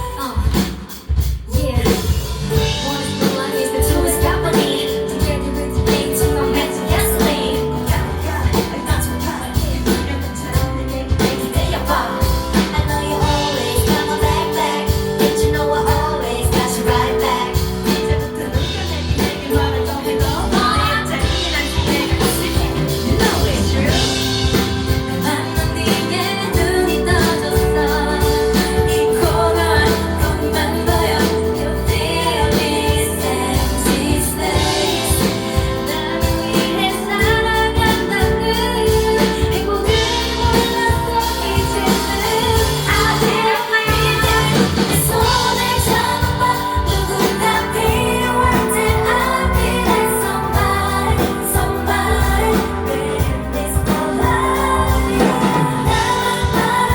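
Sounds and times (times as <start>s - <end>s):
backing track with steady beat: 0.0s - 56.9s
women singing pop ballad: 0.0s - 56.9s.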